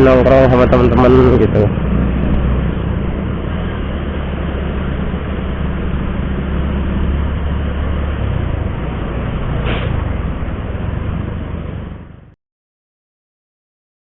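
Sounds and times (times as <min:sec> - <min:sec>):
wind and road noise: 0:00.0 - 0:12.4.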